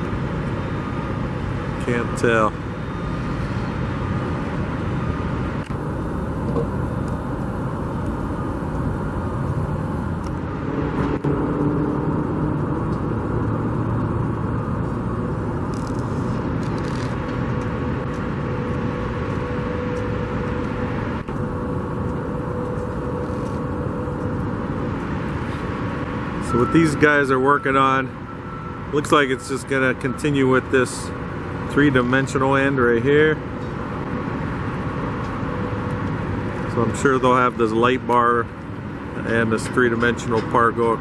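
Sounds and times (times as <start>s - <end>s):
faint steady engine tone: 0.0s - 41.0s
passing cars: 0.0s - 41.0s.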